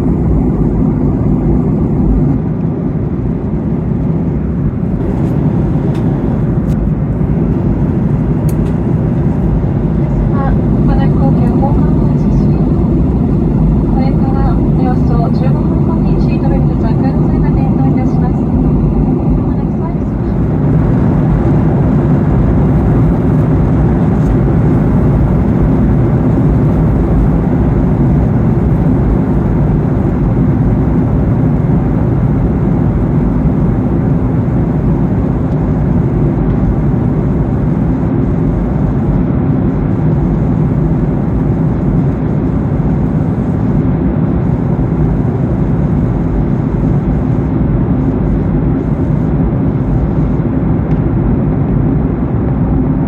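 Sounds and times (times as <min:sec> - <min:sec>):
airplane cabin airflow and engine noise: 0:00.0 - 0:53.0.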